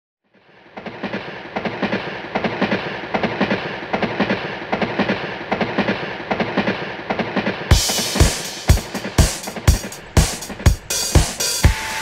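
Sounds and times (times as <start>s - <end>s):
train wheels clacking on rail joints: 0.3s - 12.0s.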